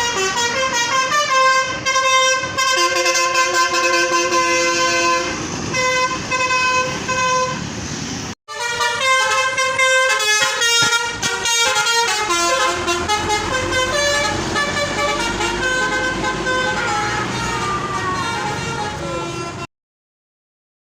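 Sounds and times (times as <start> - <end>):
multi-tone horn tooting melodies: 0.0 - 7.7, 8.5 - 19.7
bus engine rumbling: 0.0 - 19.7.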